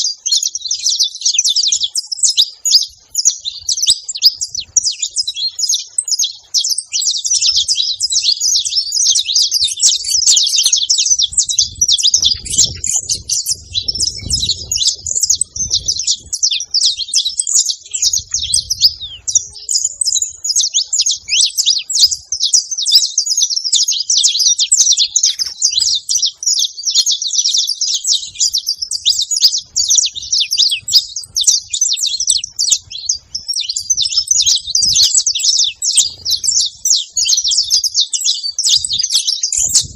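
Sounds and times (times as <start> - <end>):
finches singing and chirping: 0.0 - 39.9.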